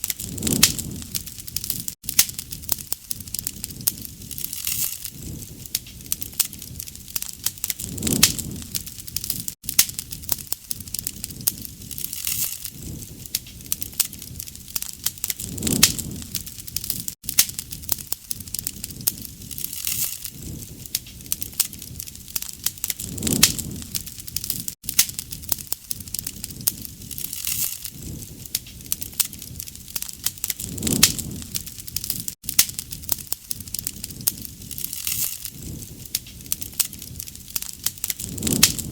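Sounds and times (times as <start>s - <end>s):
wood fire crackling and popping: 0.0s - 38.9s
low flame noise: 0.1s - 38.9s.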